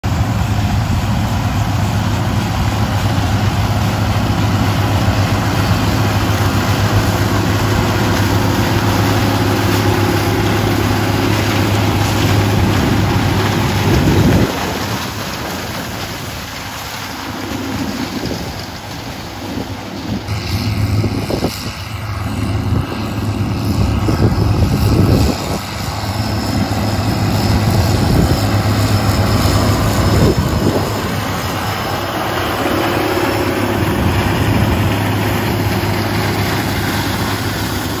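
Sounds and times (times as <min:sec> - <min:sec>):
diesel engine running under load: 0:00.0 - 0:38.0.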